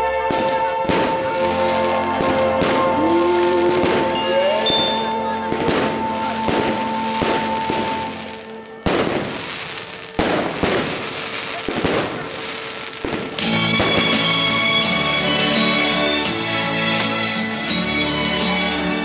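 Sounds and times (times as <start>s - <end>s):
background music: 0.0s - 19.0s
fireworks crackling and banging: 0.0s - 19.0s.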